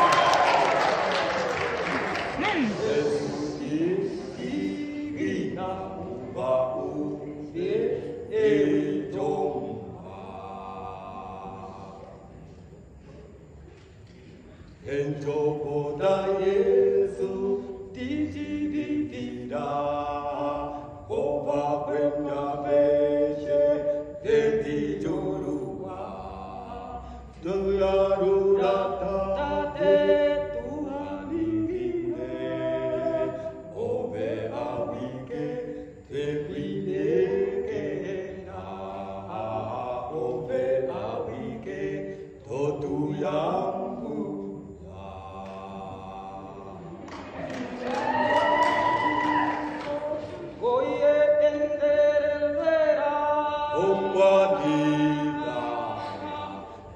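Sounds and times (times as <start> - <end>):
men singing a cappella: 0.0 - 12.4, 14.7 - 56.9.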